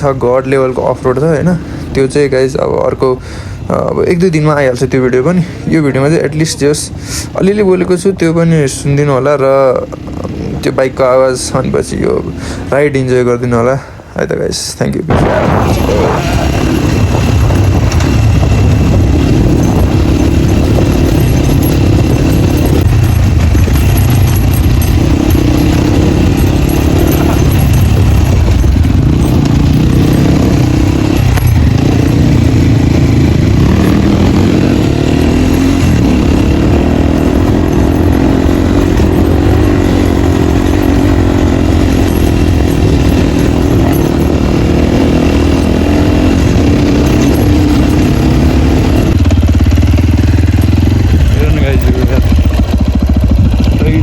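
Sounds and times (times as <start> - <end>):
loud dirt bike engine: 0.0 - 13.5, 15.1 - 54.0.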